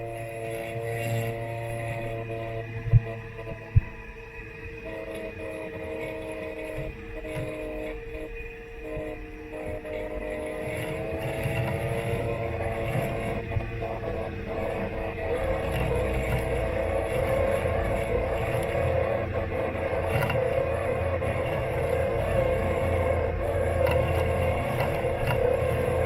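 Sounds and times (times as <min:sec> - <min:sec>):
robot lawn mower motor whine: 0:00.0 - 0:26.0.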